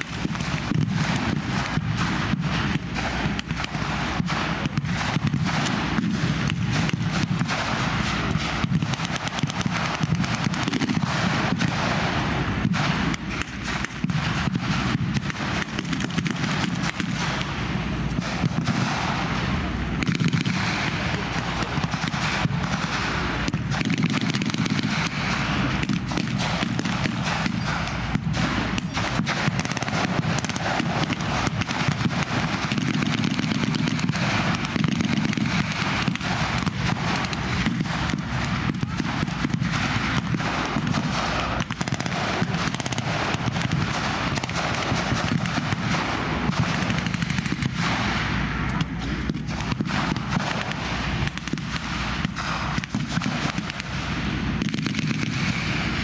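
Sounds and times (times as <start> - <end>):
rapid rifle and machine gun fire: 0.0 - 56.0
steady low rumble: 0.0 - 56.0.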